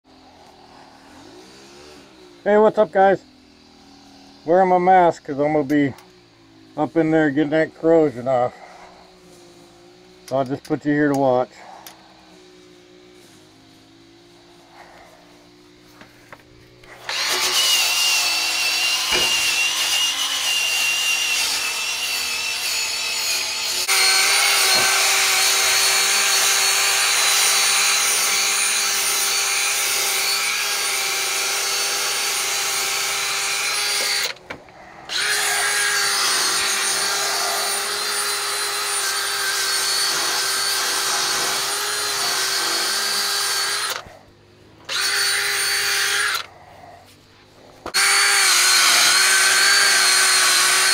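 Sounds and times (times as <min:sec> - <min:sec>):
power drill grinding metal: 0:00.1 - 0:50.9.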